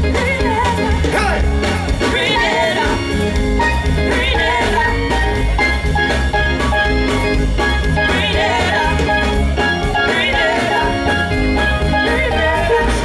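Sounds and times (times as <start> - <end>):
calypso band playing: 0.0 - 13.0.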